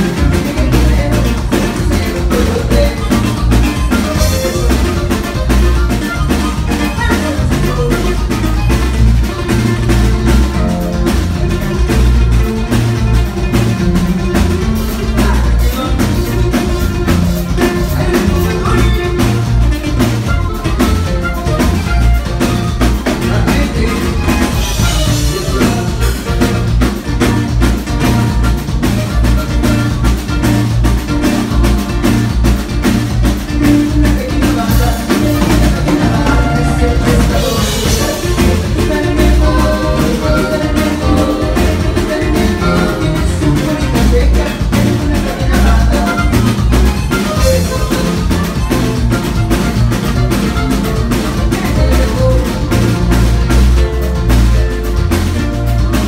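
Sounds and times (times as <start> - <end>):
live band playing: 0.0 - 56.0
steady drum beat: 0.0 - 56.0
strong bass line: 0.0 - 56.0.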